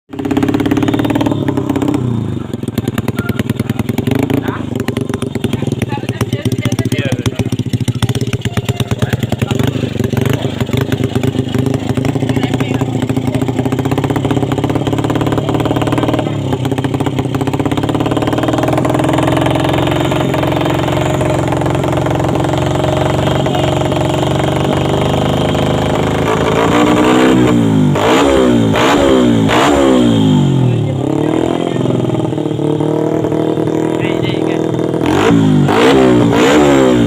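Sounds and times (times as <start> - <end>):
motorcycle engine idling and revving: 0.1 - 37.0.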